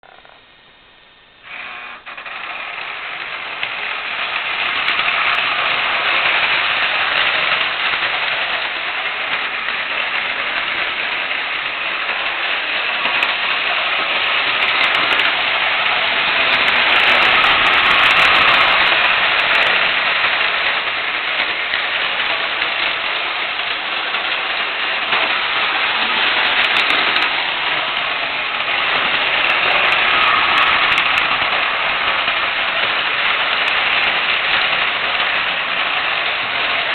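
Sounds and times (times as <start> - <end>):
model train motor whirring: 1.4 - 36.9.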